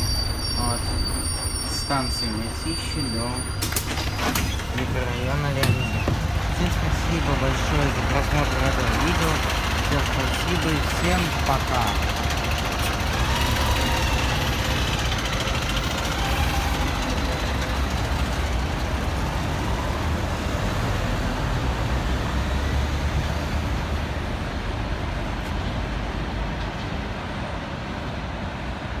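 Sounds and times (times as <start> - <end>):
bus engine rumble: 0.0 - 29.0
street traffic: 0.0 - 29.0.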